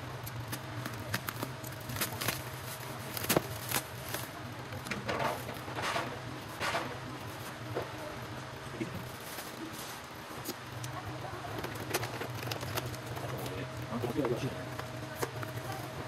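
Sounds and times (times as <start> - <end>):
bubble wrap and plastic crackling: 0.0 - 16.0
low steady hum: 0.0 - 16.0.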